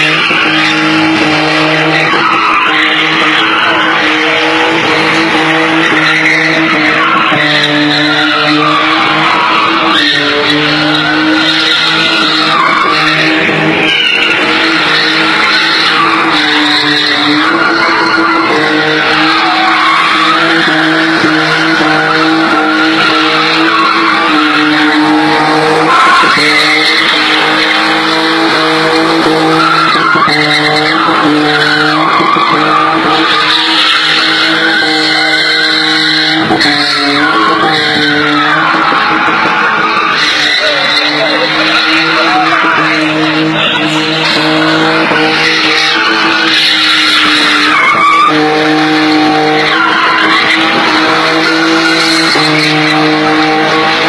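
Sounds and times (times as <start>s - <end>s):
car engine: 0.0s - 54.0s
tyres squealing: 0.0s - 54.0s.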